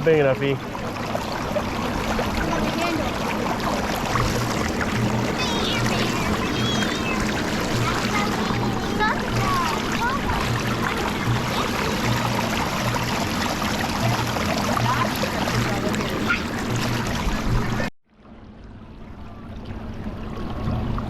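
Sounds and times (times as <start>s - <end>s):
running water: 0.0s - 21.0s
wind: 0.0s - 21.0s
distant voices: 0.6s - 17.8s.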